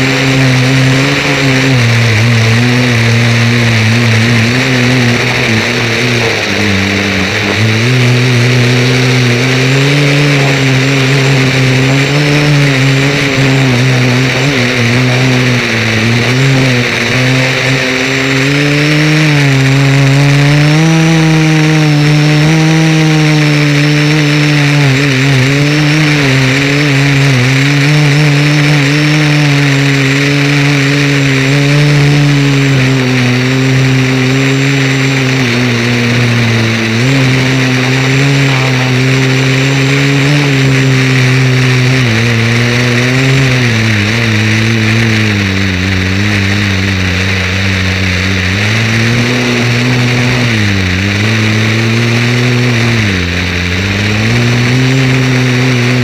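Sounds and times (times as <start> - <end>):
model aircraft motor droning: 0.0 - 56.0.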